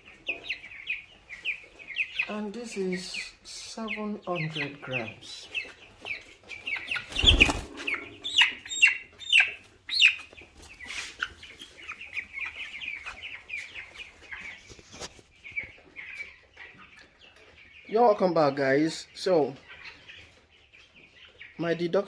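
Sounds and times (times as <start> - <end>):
chicks cheeping: 0.0 - 22.0.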